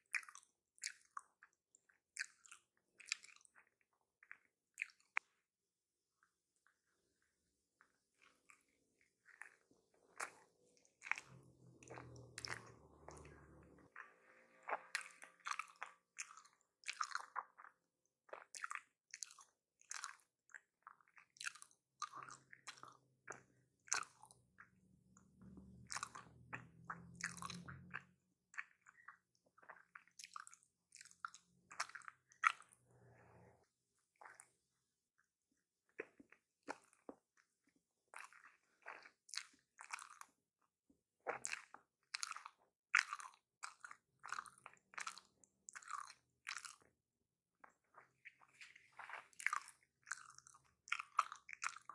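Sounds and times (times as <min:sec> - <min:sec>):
chewing and biting food: 0:00.1 - 0:05.3, 0:07.8 - 0:33.1, 0:34.2 - 0:34.5, 0:35.9 - 0:40.4, 0:41.2 - 0:47.0, 0:47.6 - 0:51.9.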